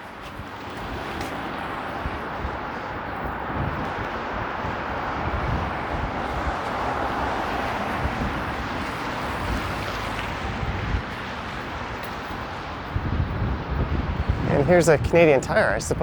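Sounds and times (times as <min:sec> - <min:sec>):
traffic hiss on wet road: 0:00.0 - 0:14.3
wind buffeting microphone: 0:00.0 - 0:16.0.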